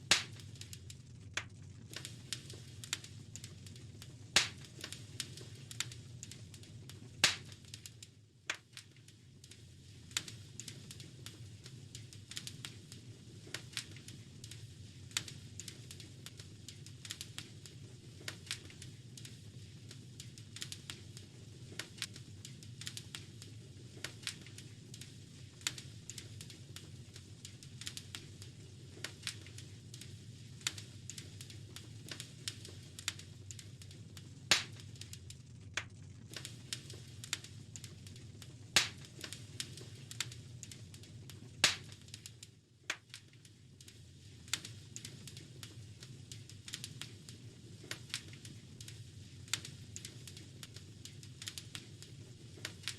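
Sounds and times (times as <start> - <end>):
fire crackling and popping: 0.0 - 52.9
low fire rumble: 0.0 - 52.9.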